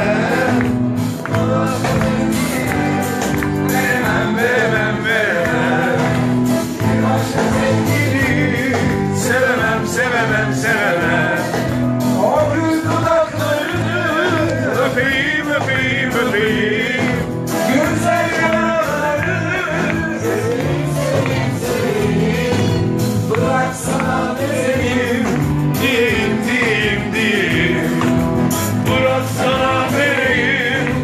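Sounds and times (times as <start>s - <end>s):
person singing: 0.0s - 28.0s
live band playing pop: 0.0s - 31.0s.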